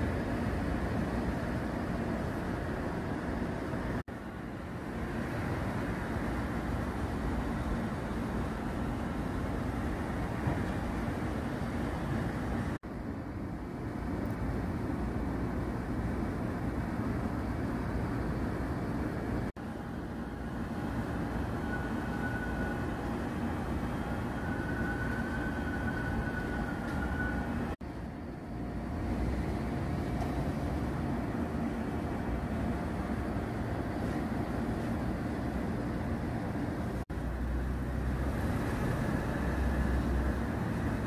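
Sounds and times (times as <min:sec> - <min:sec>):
low rumble of city traffic: 0:00.0 - 0:41.0.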